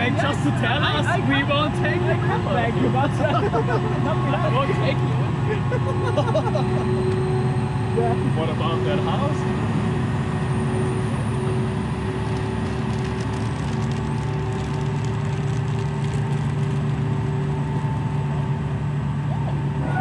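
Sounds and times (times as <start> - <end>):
ferry engine droning: 0.0 - 20.0.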